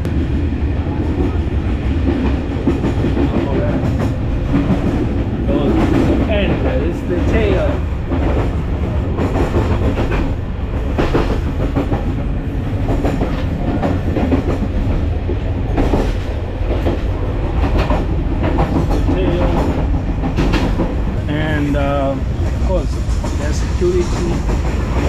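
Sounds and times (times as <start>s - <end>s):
train rumbling: 0.0s - 25.0s
wheels and coachwork rattling: 0.9s - 25.0s.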